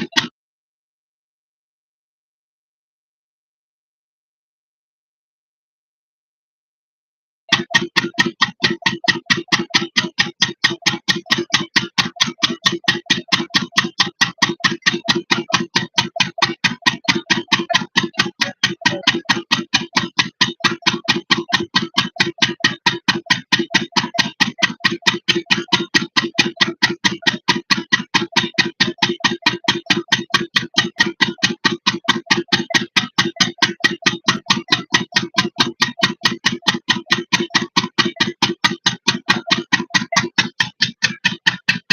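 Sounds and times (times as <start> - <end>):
diesel engine knocking: 0.0 - 0.3, 7.5 - 41.9.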